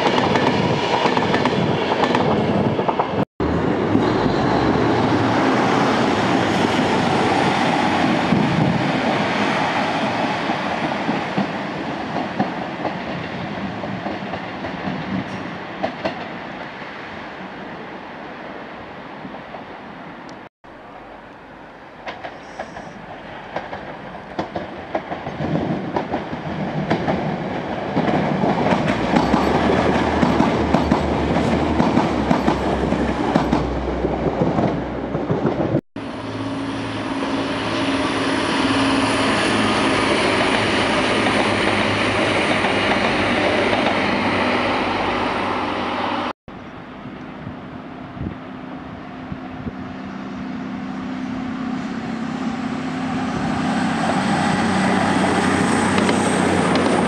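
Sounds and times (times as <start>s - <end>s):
diesel train approaching: 0.0s - 57.0s
trains passing: 0.0s - 57.0s.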